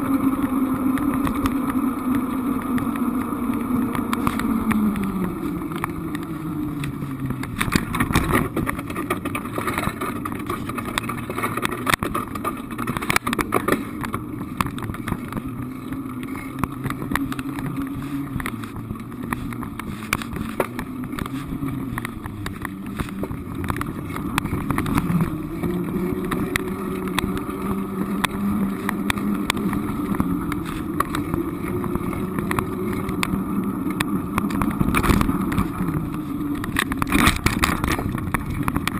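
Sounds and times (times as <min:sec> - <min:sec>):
road noise: 0:00.0 - 0:38.9
vehicle engine: 0:00.0 - 0:38.9
small knocks and rattles: 0:03.8 - 0:38.9.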